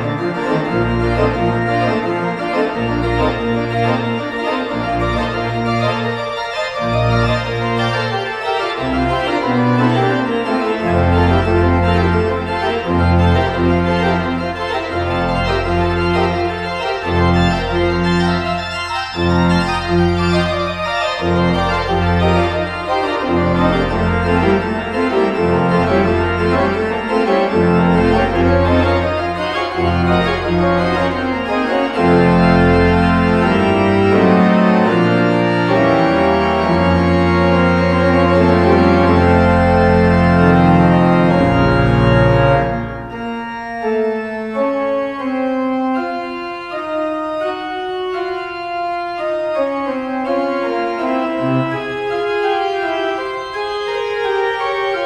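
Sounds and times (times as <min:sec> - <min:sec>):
pipe organ playing chords: 0:00.0 - 0:55.0.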